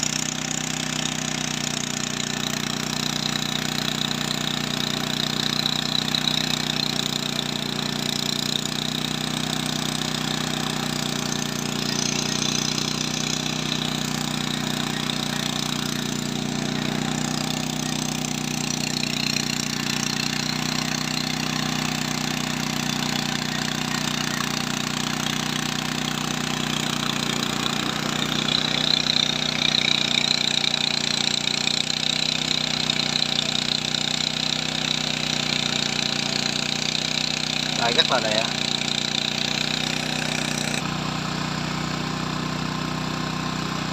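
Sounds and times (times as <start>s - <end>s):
drone rotors humming: 0.0s - 42.1s.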